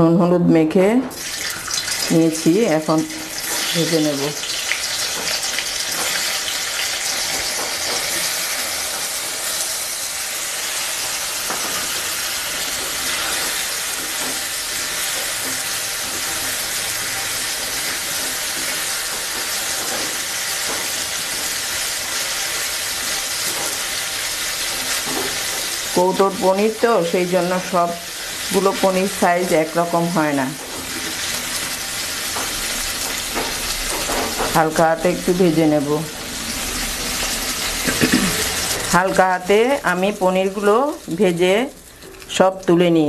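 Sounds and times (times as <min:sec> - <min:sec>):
cheese cubes sizzling in hot oil: 0:01.1 - 0:43.0.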